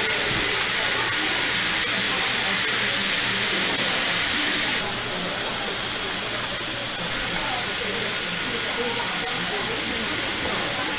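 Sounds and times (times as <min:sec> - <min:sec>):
food sizzling on a griddle: 0:00.0 - 0:10.9.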